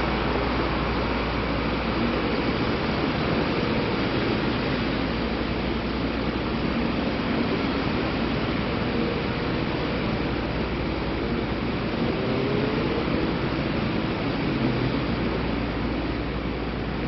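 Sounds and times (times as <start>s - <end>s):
city traffic rushing: 0.0s - 17.0s.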